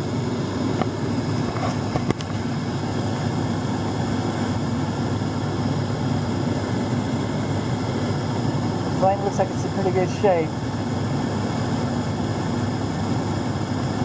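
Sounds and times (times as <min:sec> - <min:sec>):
gas furnace roaring: 0:00.0 - 0:14.0.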